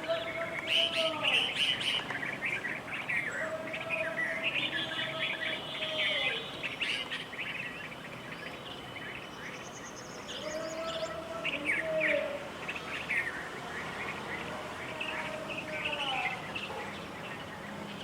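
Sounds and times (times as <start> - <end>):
bird trill: 0.0 - 18.0
songbirds chirping: 0.0 - 18.0.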